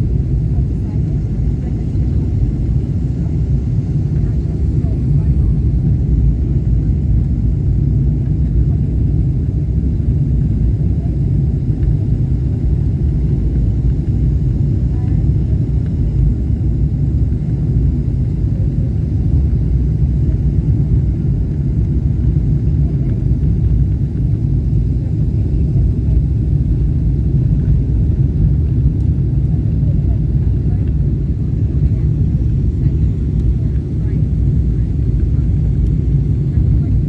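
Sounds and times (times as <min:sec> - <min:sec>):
airflow over fuselage: 0:00.0 - 0:37.0
airplane cabin engine rumble: 0:00.0 - 0:37.0.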